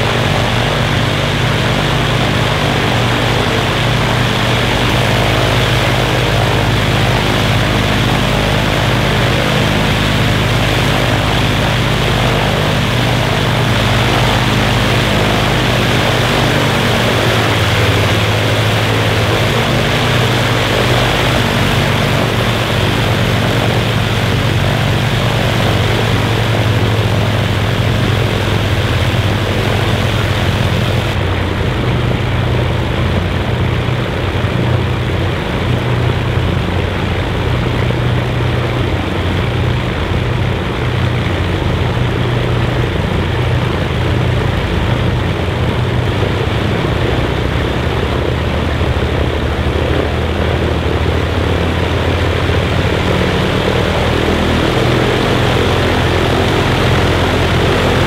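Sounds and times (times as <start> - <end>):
piston aircraft engines running: 0.0 - 58.0.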